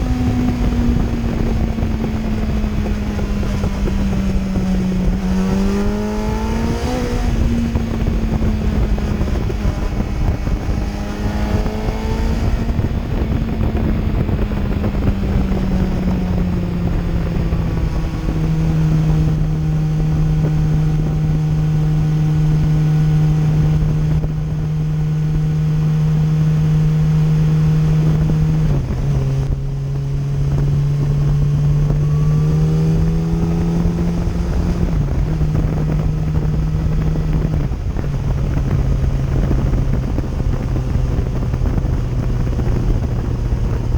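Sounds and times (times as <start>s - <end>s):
motorcycle engine running: 0.0s - 43.9s
wind on microphone: 0.0s - 43.9s.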